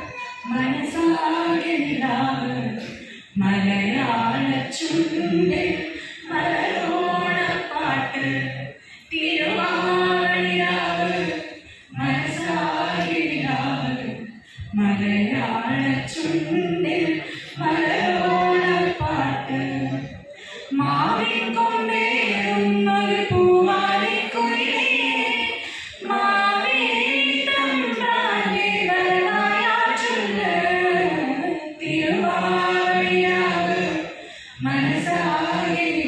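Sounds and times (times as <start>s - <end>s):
group singing unaccompanied: 0.0s - 36.0s.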